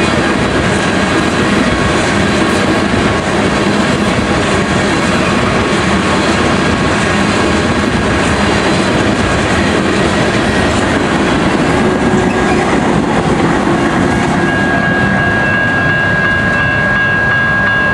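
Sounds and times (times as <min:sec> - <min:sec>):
train wheels clacking on rails: 0:00.0 - 0:17.9.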